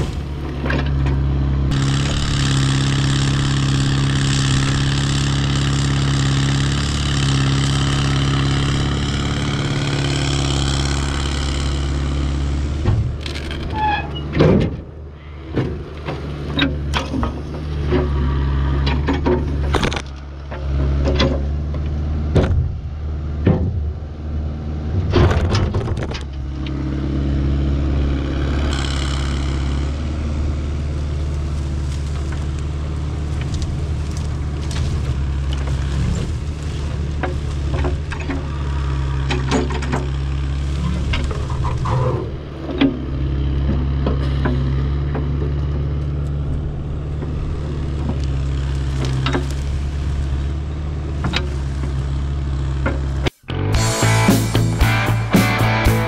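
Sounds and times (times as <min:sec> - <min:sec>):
sharp cracks and knocks: 0:00.0 - 0:14.9, 0:15.5 - 0:24.0, 0:25.0 - 0:26.8, 0:30.7 - 0:50.5
diesel engine running: 0:00.0 - 0:56.0.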